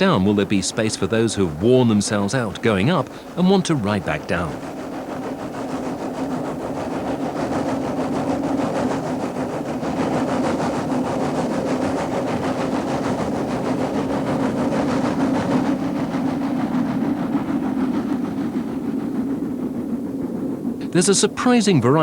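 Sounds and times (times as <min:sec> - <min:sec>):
rack train running: 0:00.0 - 0:18.6, 0:20.8 - 0:22.0.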